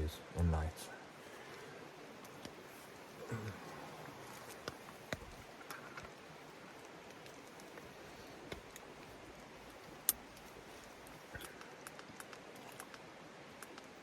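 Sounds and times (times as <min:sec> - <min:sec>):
light rain on tent fabric: 0:00.0 - 0:14.0
sharp rain ticks: 0:01.5 - 0:14.0.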